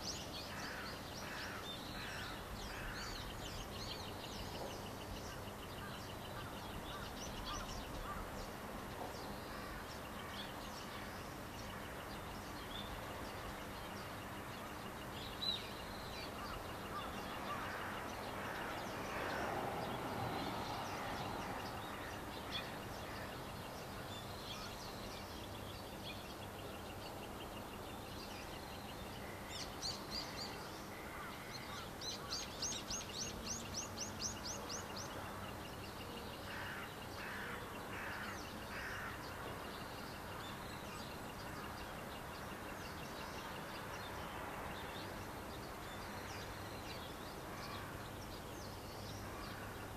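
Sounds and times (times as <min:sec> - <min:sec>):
birds calling: 0:00.0 - 0:49.9.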